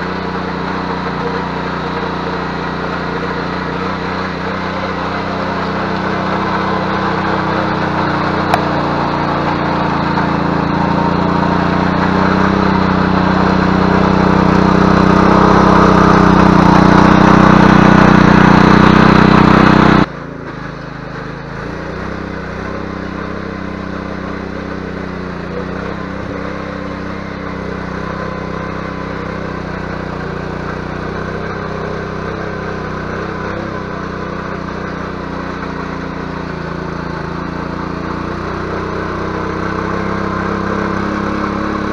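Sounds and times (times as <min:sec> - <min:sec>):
tiller engine running: 0:00.0 - 0:41.9.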